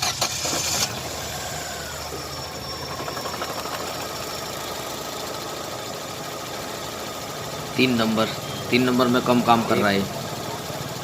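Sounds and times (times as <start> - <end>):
car engine idling with misfire: 0.0 - 11.0.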